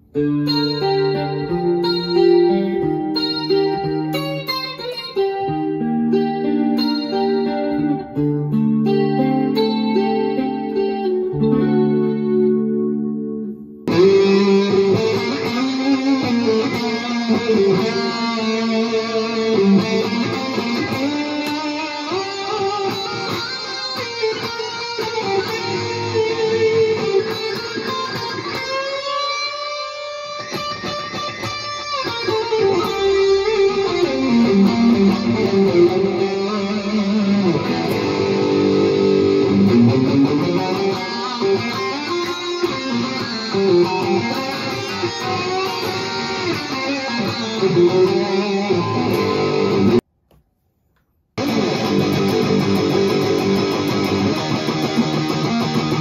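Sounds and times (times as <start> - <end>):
electric guitar lead line: 0.0 - 50.0, 51.4 - 56.0.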